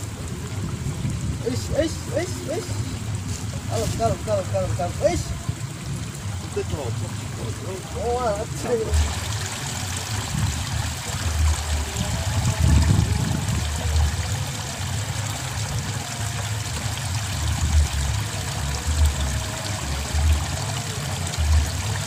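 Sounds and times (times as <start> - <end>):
water trickling in a ditch: 0.0 - 22.0.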